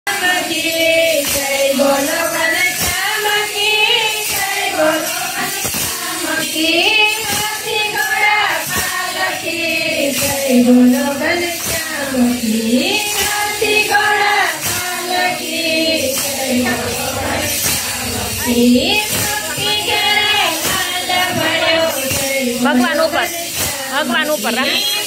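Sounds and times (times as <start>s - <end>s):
hand claps keeping time: 0.1s - 25.0s
women singing devotional song: 0.1s - 25.0s.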